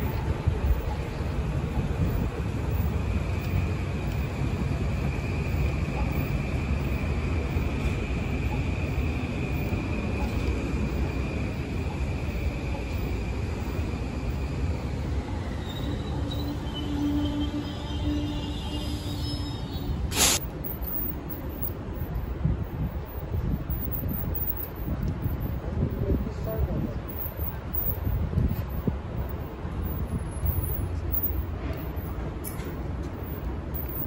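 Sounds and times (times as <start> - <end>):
electric train rumbling and whining: 0.0 - 34.0.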